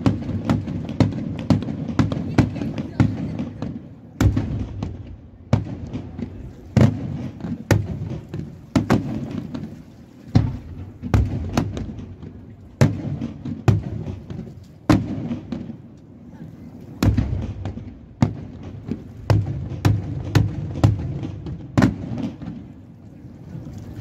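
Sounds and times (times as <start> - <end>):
fireworks bangs: 0.0 - 16.0, 16.9 - 22.8
low rumbling echo: 1.7 - 24.0.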